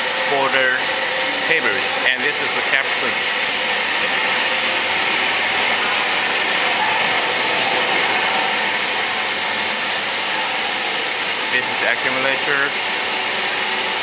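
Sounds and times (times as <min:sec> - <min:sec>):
machine hiss and whir: 0:00.0 - 0:14.0.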